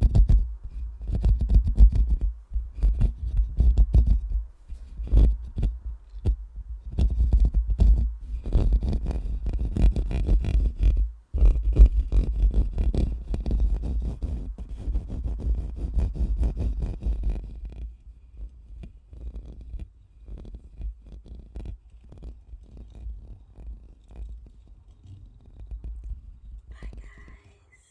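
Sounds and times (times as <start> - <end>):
microphone scratching and rubbing: 0.0 - 27.5.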